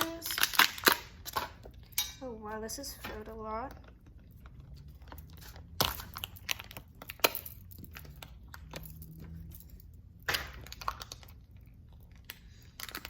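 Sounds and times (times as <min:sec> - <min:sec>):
plastic packaging crackling: 0:00.0 - 0:01.8, 0:03.3 - 0:09.4, 0:10.2 - 0:13.0.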